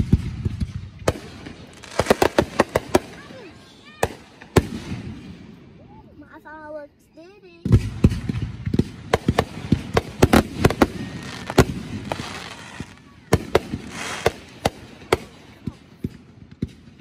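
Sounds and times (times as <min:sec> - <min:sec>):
fireworks bangs: 0:00.0 - 0:06.0, 0:07.6 - 0:17.0.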